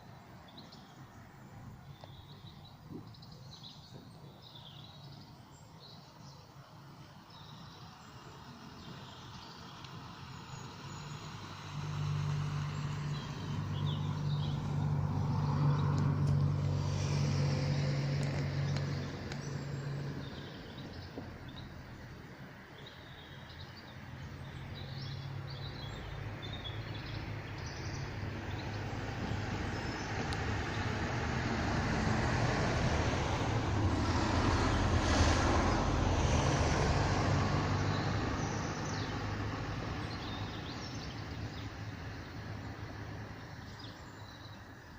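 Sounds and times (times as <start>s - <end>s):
vehicles passing on road: 0.0s - 44.9s.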